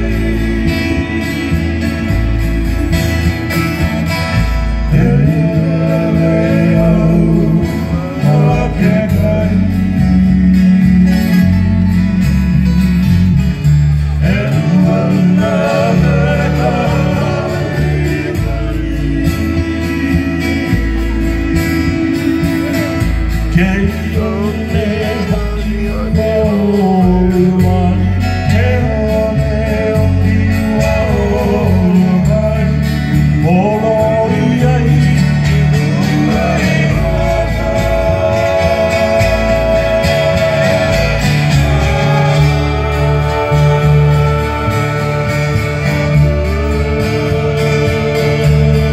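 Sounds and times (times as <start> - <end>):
bass line: 0.0 - 48.9
male voices singing in harmony: 0.0 - 48.9
strummed acoustic guitars: 0.0 - 48.9.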